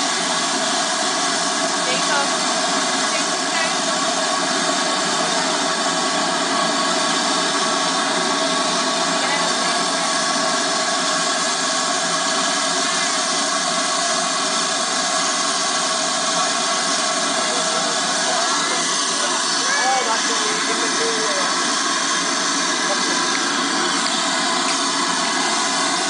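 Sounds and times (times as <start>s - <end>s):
steam hissing: 0.0s - 26.0s.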